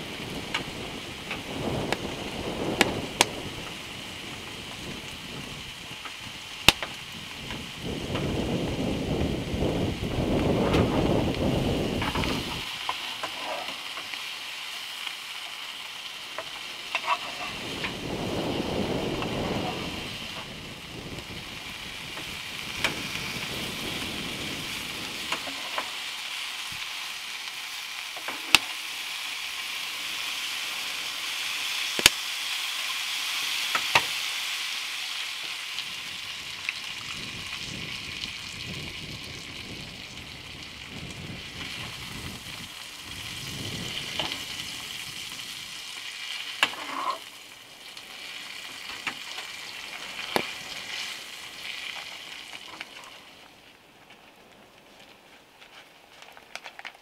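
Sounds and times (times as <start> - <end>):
bacon sizzling in a frying pan: 0.0 - 53.6.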